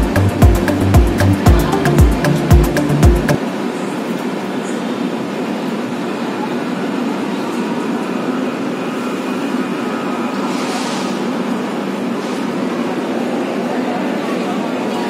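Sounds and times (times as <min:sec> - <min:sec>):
train running noise inside coach: 0:00.0 - 0:15.0.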